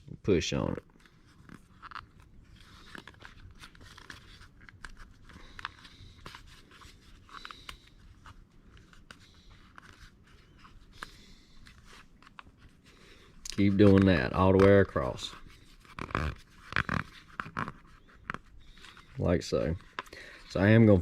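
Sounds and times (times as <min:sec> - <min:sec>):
vinyl film crinkling and scraping: 0:00.5 - 0:21.0.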